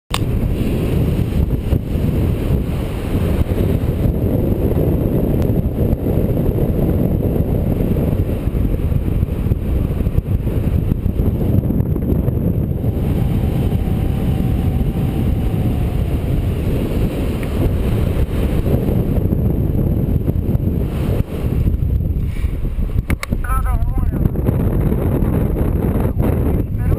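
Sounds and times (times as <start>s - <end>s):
wind buffeting microphone: 0.1s - 26.9s.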